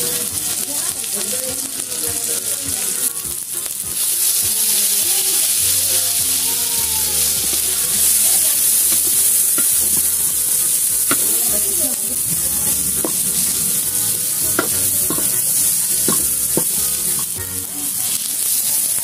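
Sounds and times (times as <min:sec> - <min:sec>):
food sizzling in hot oil: 0:00.0 - 0:19.0
spatula stirring pan: 0:00.0 - 0:19.0.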